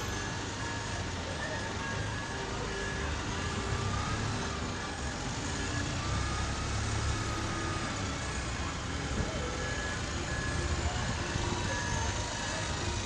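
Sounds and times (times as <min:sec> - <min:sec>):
bus engine rumble: 0:00.0 - 0:13.0
urban traffic din: 0:00.0 - 0:13.0.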